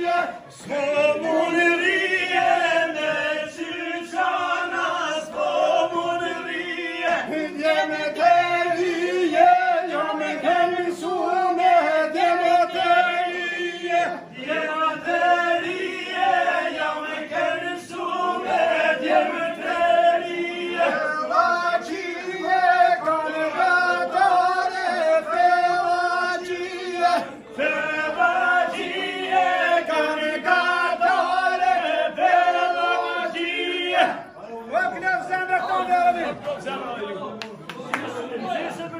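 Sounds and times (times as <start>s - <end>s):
men singing folk song together: 0.0s - 34.2s.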